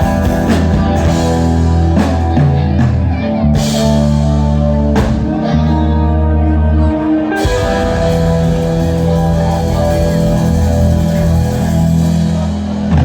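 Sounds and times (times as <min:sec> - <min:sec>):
rock band playing held chords: 0:00.0 - 0:13.0.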